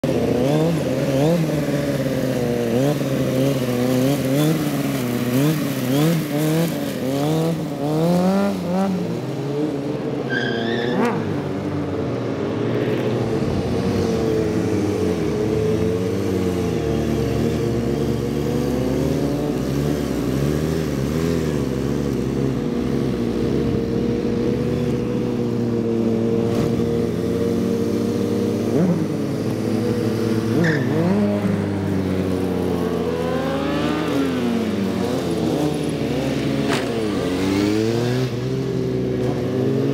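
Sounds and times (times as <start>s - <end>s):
motorcycle engines revving and passing: 0.0s - 39.9s.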